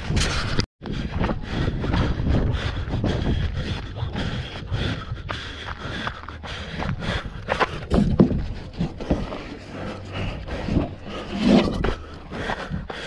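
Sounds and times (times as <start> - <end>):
running footsteps: 0.0 - 13.0
heavy breathing: 0.1 - 13.0.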